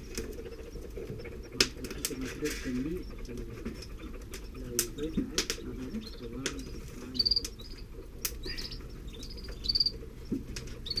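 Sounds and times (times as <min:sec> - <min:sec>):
nestlings peeping: 0:00.0 - 0:11.0.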